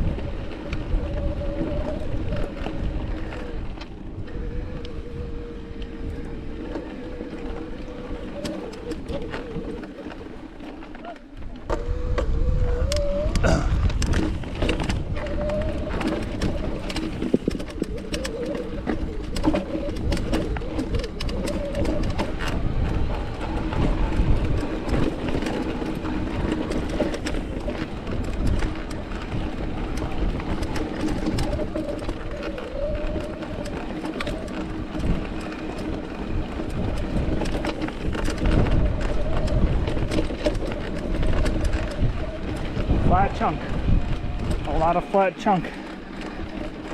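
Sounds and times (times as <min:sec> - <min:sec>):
bike rattling over rocks: 0:00.0 - 0:46.9
wind rumble on microphone: 0:00.0 - 0:46.9.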